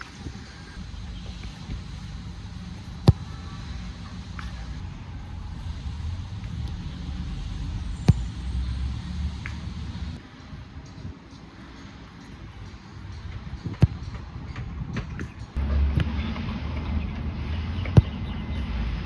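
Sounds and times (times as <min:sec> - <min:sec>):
steady low rumble: 0:00.7 - 0:10.8, 0:12.2 - 0:19.0
football being kicked: 0:00.8 - 0:09.9, 0:12.2 - 0:18.8.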